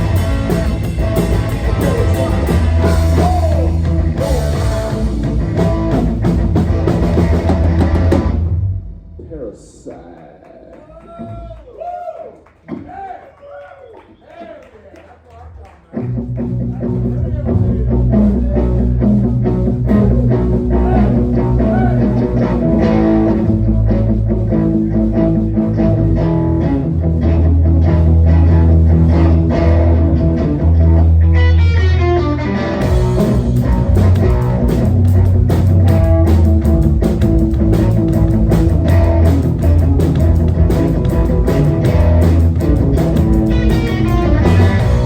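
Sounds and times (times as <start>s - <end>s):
electric guitar: 0.0s - 9.2s, 15.9s - 45.0s
bass guitar: 0.0s - 9.8s, 15.5s - 45.0s
drums: 0.0s - 10.1s, 10.7s - 13.3s, 15.2s - 45.0s.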